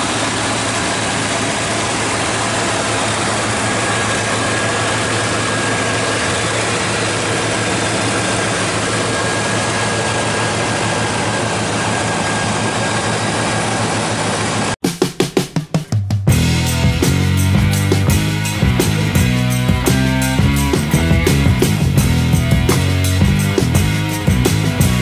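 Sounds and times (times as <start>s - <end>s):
car engine idling: 0.0s - 14.8s, 16.3s - 25.0s.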